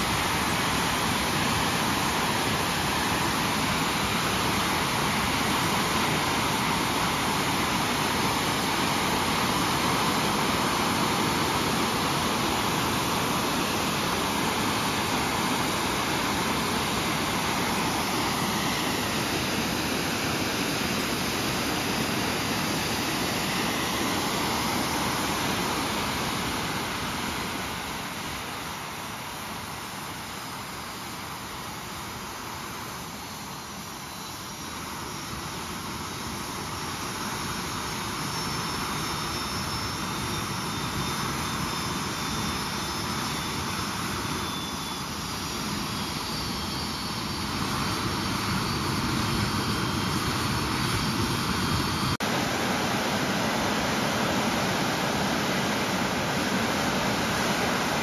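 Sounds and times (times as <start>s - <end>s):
jet engine running: 0.0s - 58.0s.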